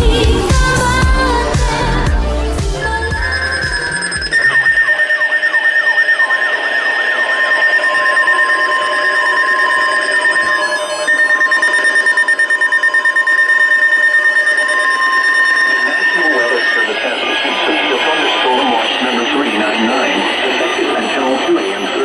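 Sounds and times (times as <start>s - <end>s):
pulsing high alert tone: 0.1s - 22.0s
wavering warbling tone: 0.1s - 22.0s
steady lower alert tone: 2.1s - 22.0s.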